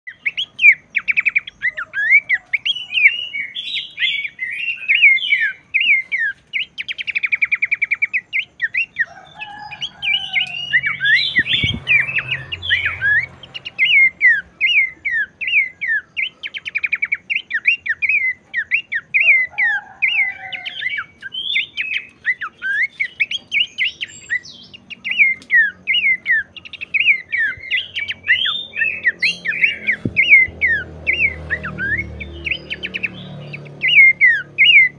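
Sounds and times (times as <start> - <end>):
bird singing: 0.0 - 34.9.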